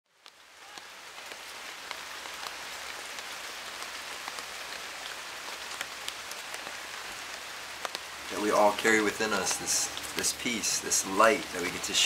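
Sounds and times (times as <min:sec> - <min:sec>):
rain on leaves: 0:00.1 - 0:12.0.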